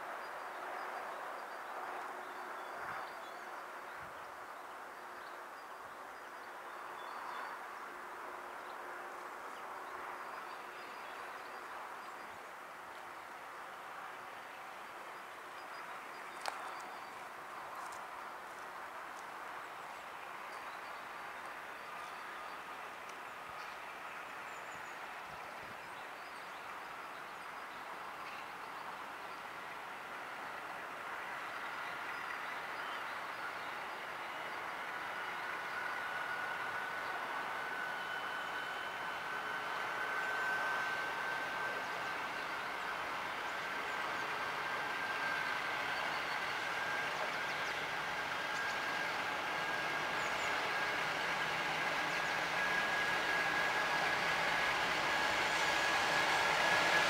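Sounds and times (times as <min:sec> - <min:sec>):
distant diesel locomotive drone: 0:00.0 - 0:57.0.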